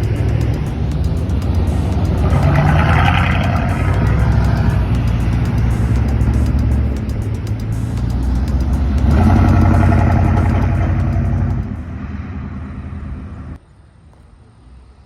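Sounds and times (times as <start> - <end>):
vehicle engine running loudly: 0.0 - 13.6.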